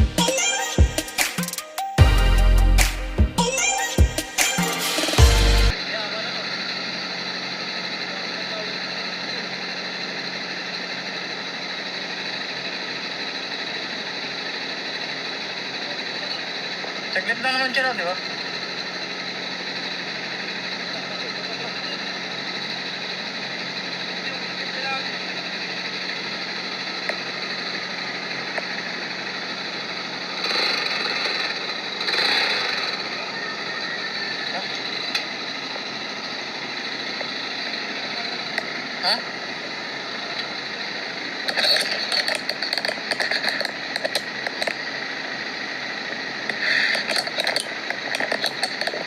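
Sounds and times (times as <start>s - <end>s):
engine idling: 0.0s - 1.3s, 2.0s - 49.0s.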